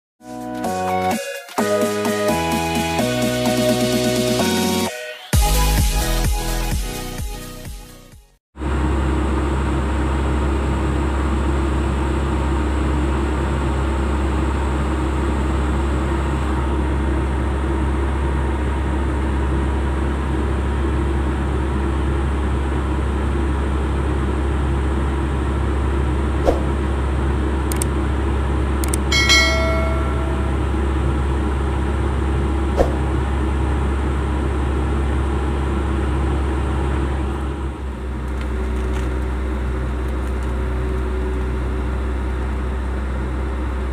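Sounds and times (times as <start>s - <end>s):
low engine drone: 8.6s - 43.9s.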